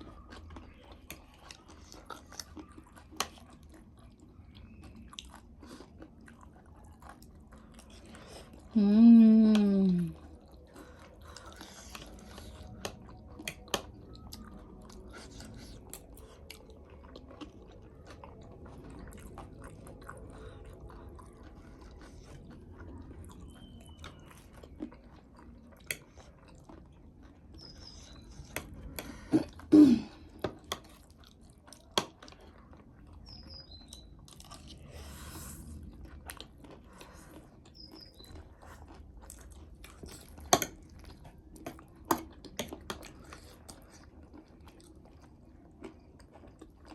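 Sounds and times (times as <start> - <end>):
chewing and crunching: 0.0 - 46.9.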